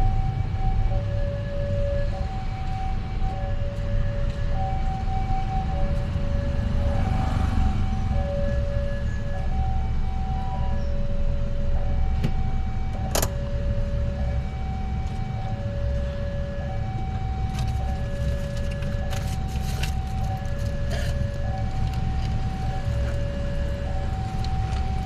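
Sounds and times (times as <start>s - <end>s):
road noise rumble: 0.0s - 25.0s
two-tone hi-lo siren: 0.0s - 25.0s.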